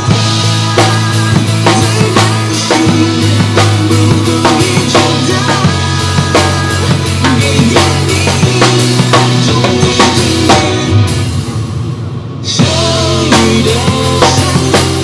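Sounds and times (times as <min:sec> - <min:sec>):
drum kit playing: 0:00.0 - 0:15.0
pop backing track: 0:00.0 - 0:15.0.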